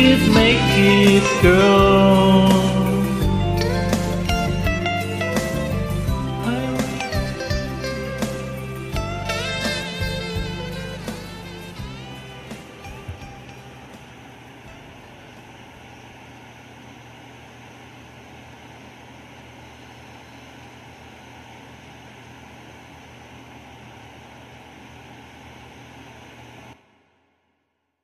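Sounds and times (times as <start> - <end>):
background hiss and hum: 0.0 - 27.4.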